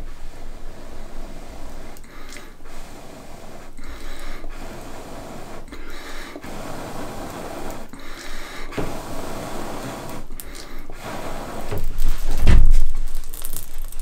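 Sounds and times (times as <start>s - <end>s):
person blowing on embers: 0.0s - 14.0s.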